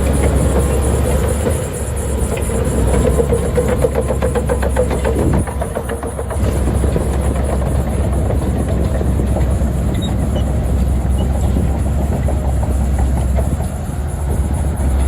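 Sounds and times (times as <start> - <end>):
diesel engine running loud: 0.0 - 15.0
steel tracks clattering: 0.0 - 15.0.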